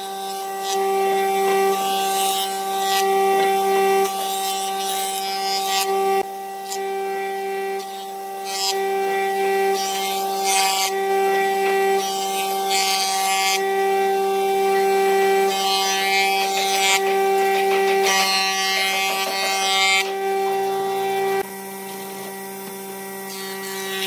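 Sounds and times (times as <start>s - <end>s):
cutterhead planing a board: 0.0s - 24.0s
jointer motor whine: 0.0s - 24.0s.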